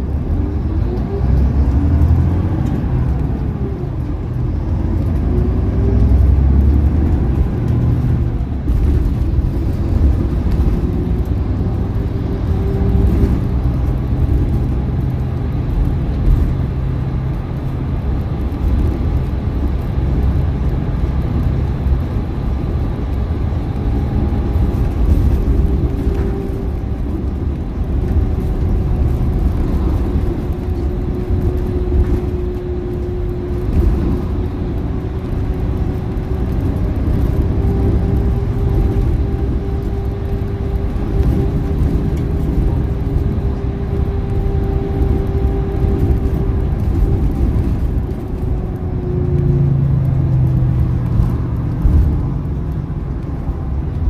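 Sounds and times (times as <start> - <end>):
diesel engine running: 0.0 - 54.0
road rumble: 0.0 - 54.0.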